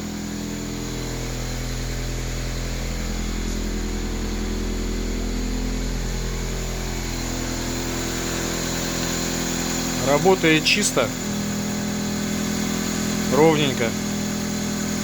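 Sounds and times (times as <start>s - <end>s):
petrol engine idling: 0.0s - 15.0s.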